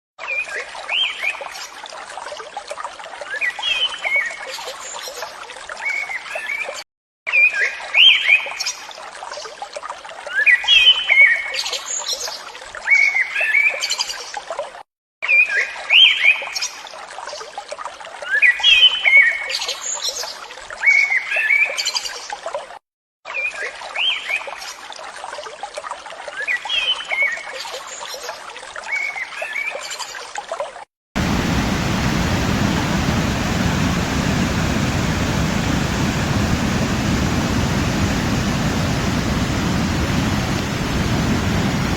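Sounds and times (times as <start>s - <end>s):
trickle of running water: 0.3s - 6.8s, 7.6s - 14.9s, 15.6s - 22.8s, 23.5s - 41.9s.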